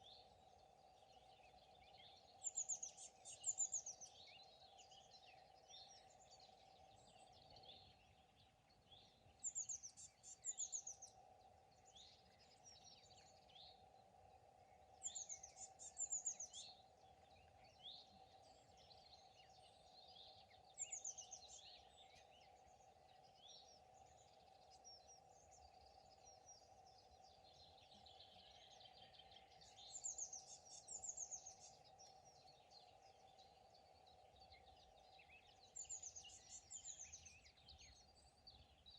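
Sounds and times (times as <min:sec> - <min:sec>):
faint steady hum: 0:00.0 - 0:38.9
songbirds singing: 0:00.0 - 0:38.9.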